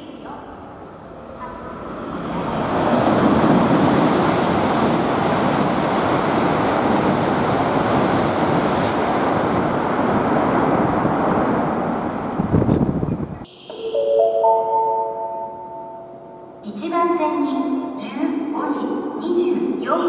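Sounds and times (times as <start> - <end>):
high-speed train roaring past: 0.0 - 20.0.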